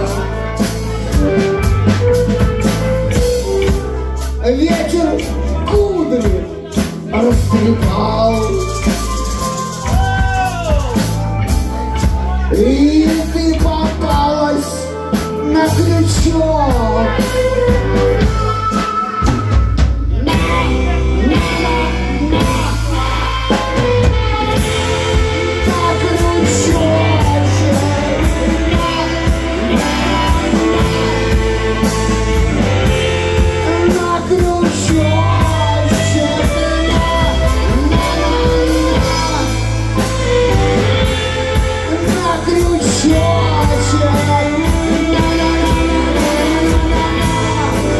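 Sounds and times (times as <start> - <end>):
live rock band playing: 0.0 - 47.9
person singing: 0.0 - 47.9.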